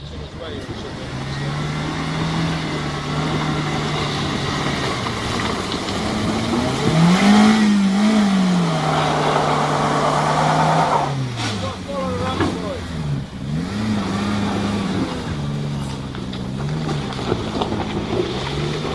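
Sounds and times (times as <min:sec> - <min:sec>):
off-road vehicle engine revving: 0:00.0 - 0:18.9.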